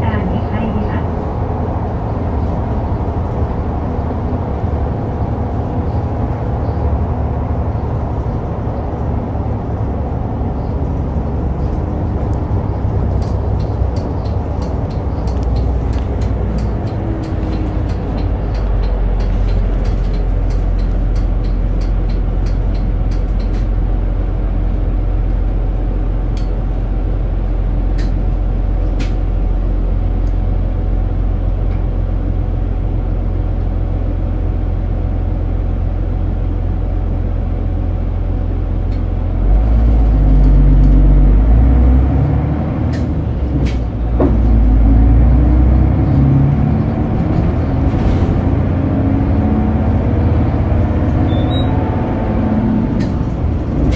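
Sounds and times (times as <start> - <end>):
bus engine droning: 0.0 - 53.9
road noise: 0.0 - 53.9.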